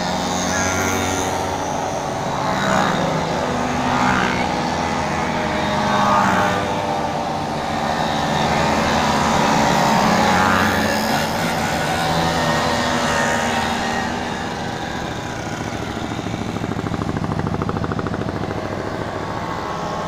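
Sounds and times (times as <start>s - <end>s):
mopeds buzzing past: 0.0s - 20.0s.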